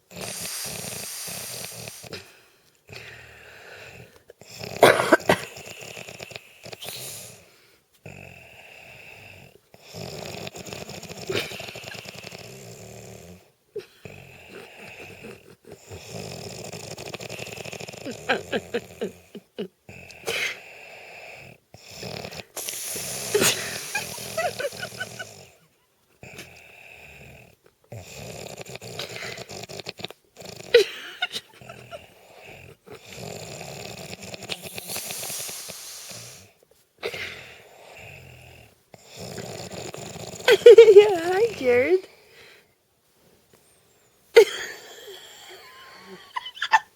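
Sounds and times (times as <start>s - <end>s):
man snoring: 0.0s - 2.3s, 2.9s - 25.6s, 26.2s - 36.6s, 37.2s - 42.0s.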